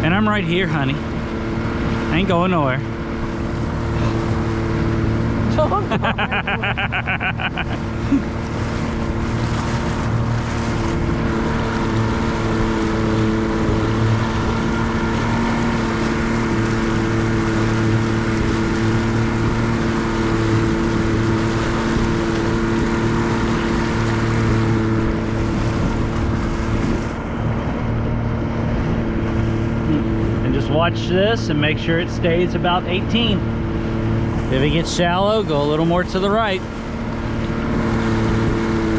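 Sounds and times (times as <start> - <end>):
outboard motor humming: 0.0 - 38.9
water rushing past hull: 0.0 - 38.9.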